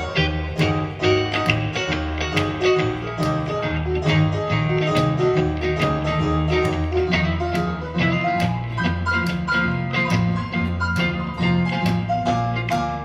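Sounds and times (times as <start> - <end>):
country band instrumental: 0.0 - 13.0.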